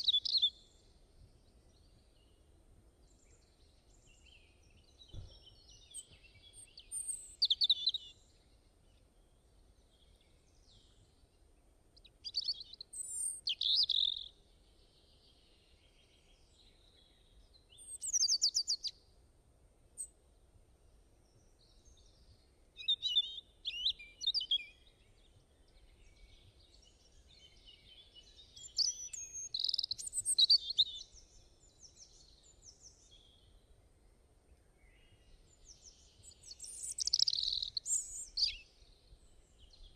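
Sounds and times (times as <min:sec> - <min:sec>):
faint low background noise: 0:00.0 - 0:39.9
songbird chirping: 0:00.0 - 0:39.9.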